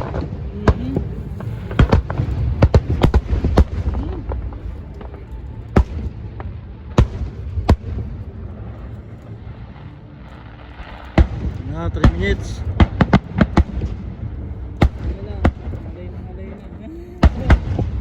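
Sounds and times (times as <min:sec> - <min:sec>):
fireworks bangs: 0:00.0 - 0:16.2, 0:17.2 - 0:18.0
low rumble: 0:00.0 - 0:18.0.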